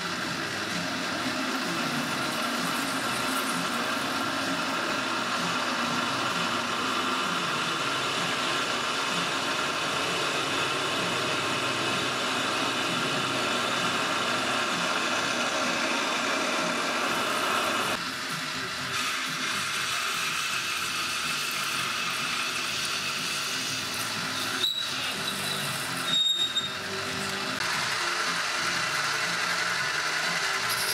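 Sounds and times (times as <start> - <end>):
lathe humming: 0.0 - 26.1, 26.8 - 30.9
drill cutting metal: 0.0 - 30.9.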